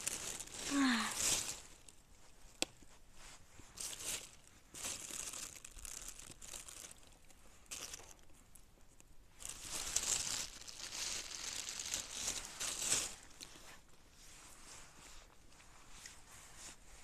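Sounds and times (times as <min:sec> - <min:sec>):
dry material crinkling: 0:00.0 - 0:13.9.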